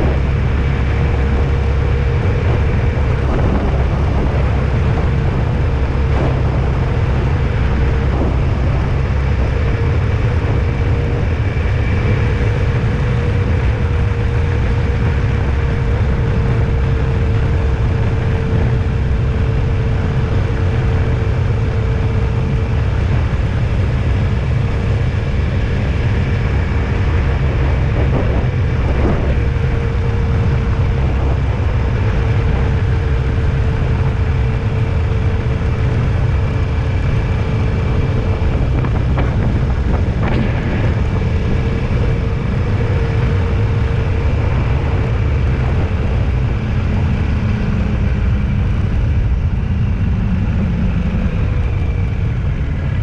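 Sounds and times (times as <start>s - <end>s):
faint wavering drone: 0.0s - 53.0s
vehicle driving rumble: 0.0s - 53.0s.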